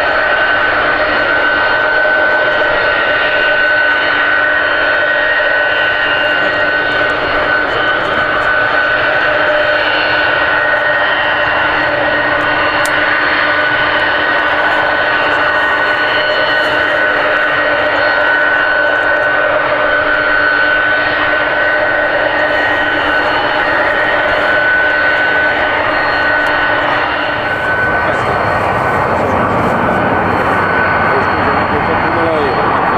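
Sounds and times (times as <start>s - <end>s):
jet engines whining: 0.0s - 32.9s.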